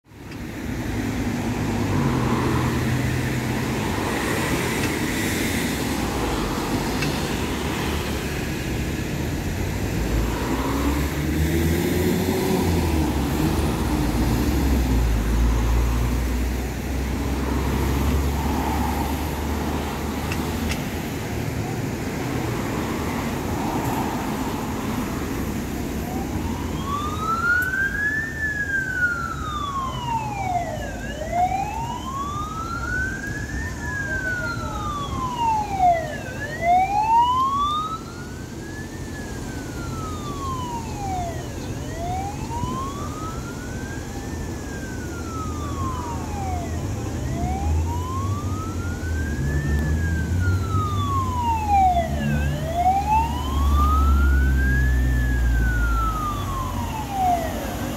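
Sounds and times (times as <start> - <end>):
street traffic rumble: 0.0 - 57.9
vehicle engine rumble: 0.1 - 57.9
siren wailing: 10.0 - 57.9.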